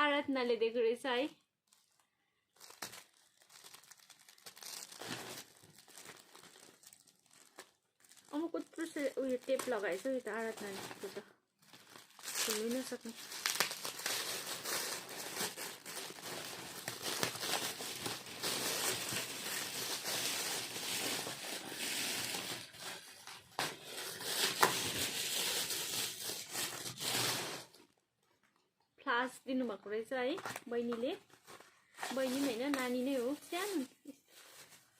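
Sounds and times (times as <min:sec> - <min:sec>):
paper and tape tearing and crinkling: 0:02.6 - 0:27.8, 0:30.4 - 0:34.9.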